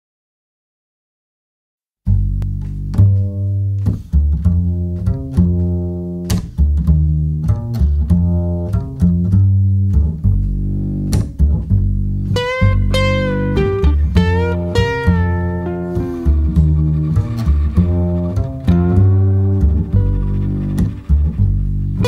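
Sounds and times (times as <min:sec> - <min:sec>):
plucked bass line: 0:02.1 - 0:22.0.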